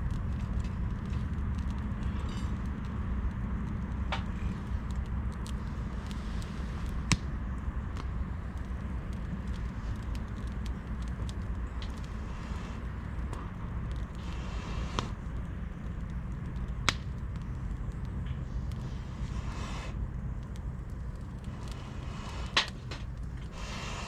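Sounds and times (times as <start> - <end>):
campfire crackling: 0.0 - 24.0
low rumble: 0.0 - 24.0.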